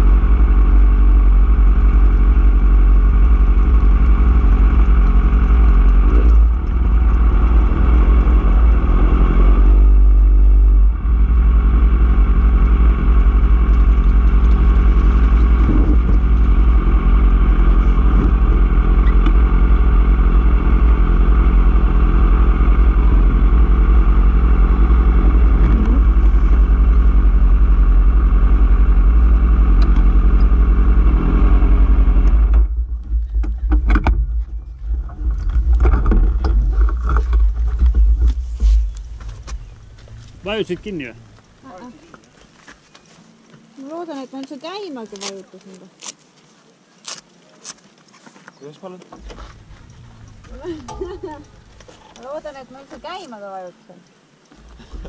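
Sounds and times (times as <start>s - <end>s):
motorcycle engine rumbling: 0.0s - 45.8s, 48.5s - 53.6s, 54.2s - 55.0s.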